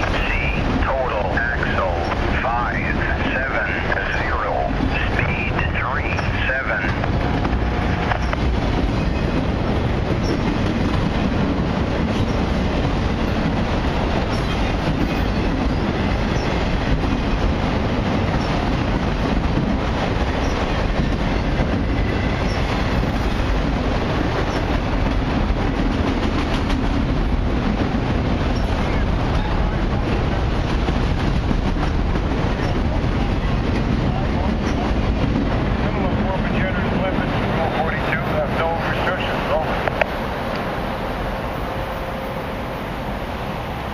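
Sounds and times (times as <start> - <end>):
steel wheels rumbling on rail: 0.0 - 43.9.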